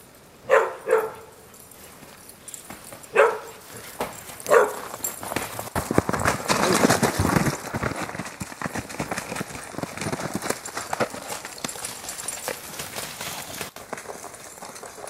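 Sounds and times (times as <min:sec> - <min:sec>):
dog paws crunching in snow: 0:00.5 - 0:15.0.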